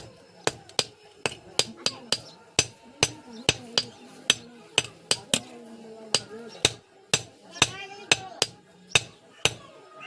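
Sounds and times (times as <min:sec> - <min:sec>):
hammer striking steel on anvil: 0:00.0 - 0:05.4, 0:06.2 - 0:09.6.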